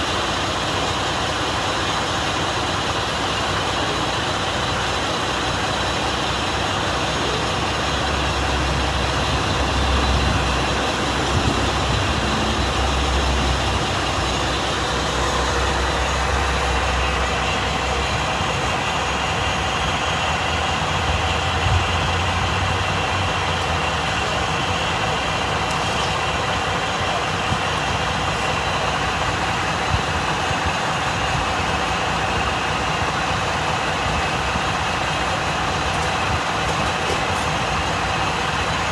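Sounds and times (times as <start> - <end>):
deep engine rumble: 0.0 - 38.9
heavy truck engines idling: 0.0 - 38.9
street hum: 0.0 - 38.9.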